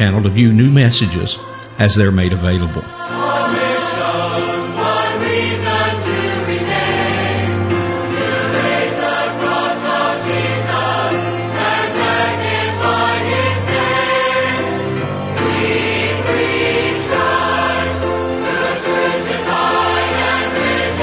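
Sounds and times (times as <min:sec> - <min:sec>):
choir singing: 0:00.2 - 0:21.0.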